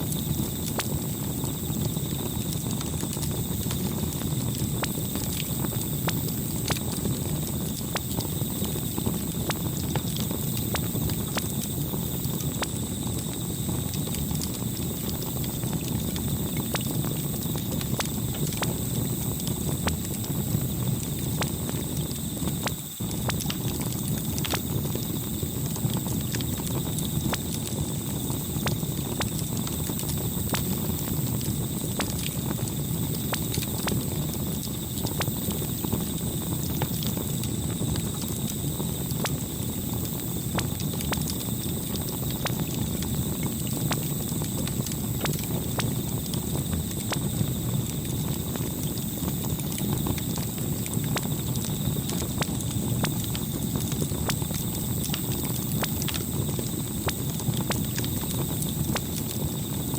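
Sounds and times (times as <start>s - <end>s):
fire crackles and pops: 0.0s - 59.9s
low rumble of flames: 0.0s - 59.9s.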